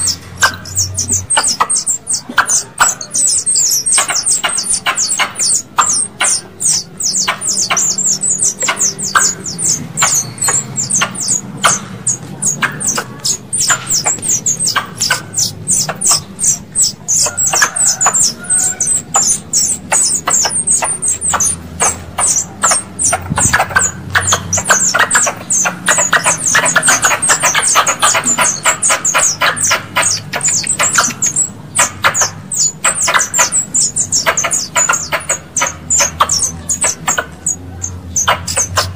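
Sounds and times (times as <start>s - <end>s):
squirrel chirps: 0.0s - 38.9s.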